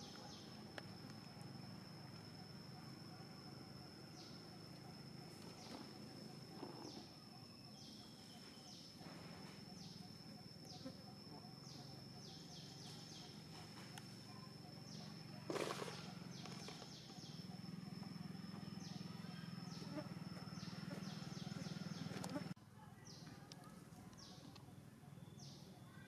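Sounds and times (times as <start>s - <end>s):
bird chirps: 0.0s - 22.5s, 24.2s - 26.0s
high-pitched insect tone: 0.0s - 22.6s.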